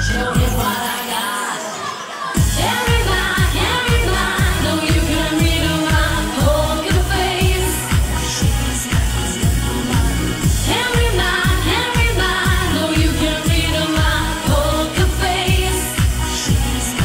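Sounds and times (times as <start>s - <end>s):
person singing: 0.0s - 17.0s
pop dance music: 0.0s - 17.0s
kick drum beat: 2.4s - 16.7s.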